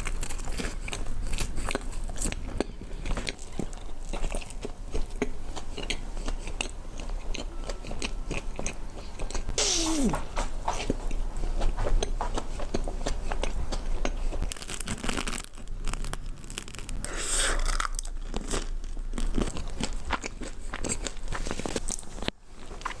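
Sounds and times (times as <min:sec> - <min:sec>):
crunchy bites and chewing: 0:00.0 - 0:11.2, 0:12.0 - 0:23.0.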